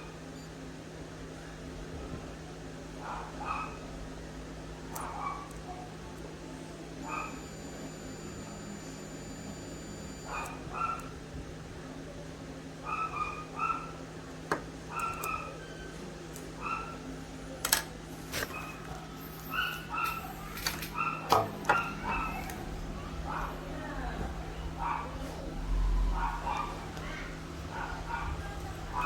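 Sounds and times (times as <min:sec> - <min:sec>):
steady low hum: 0:00.0 - 0:12.5, 0:16.6 - 0:29.0.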